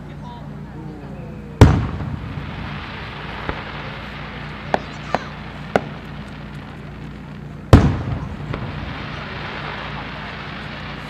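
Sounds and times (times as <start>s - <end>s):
deep firework boom: 1.6s - 11.0s
firework cracks: 1.6s - 11.0s.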